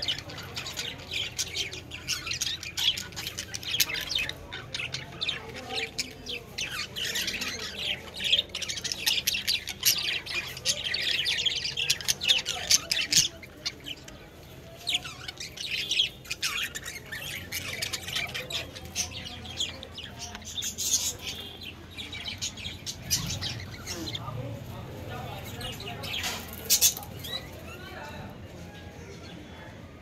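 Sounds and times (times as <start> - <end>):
budgerigars chattering: 0.0 - 24.4.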